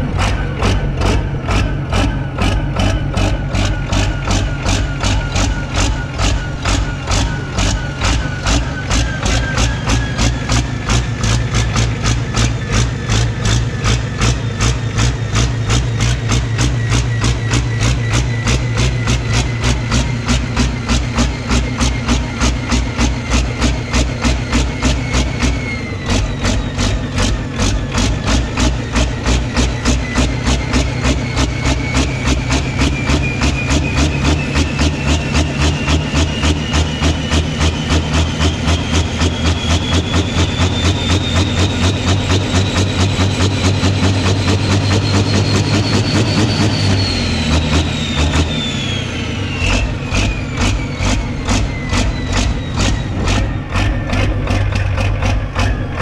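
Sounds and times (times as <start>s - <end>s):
diesel engine running: 0.0s - 56.0s
turbo whine rising: 0.0s - 56.0s.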